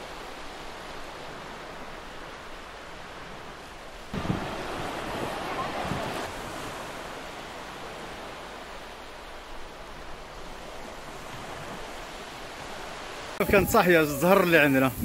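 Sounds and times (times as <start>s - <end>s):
waves washing onto sand: 0.0s - 15.0s
wind: 0.0s - 15.0s.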